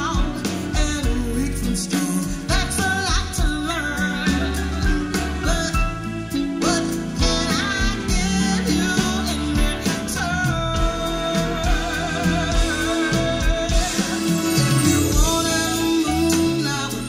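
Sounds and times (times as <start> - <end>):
band accompaniment: 0.0 - 17.0
woman singing soul ballad: 0.0 - 17.0.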